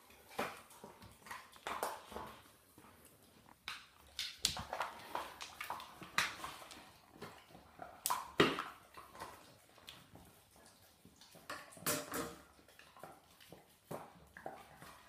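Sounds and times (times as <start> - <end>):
dog gnawing on bone: 0.0 - 15.0.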